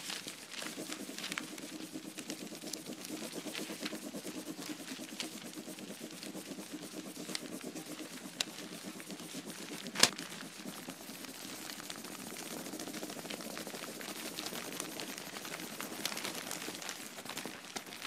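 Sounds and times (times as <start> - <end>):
small ticks: 0.0 - 18.0.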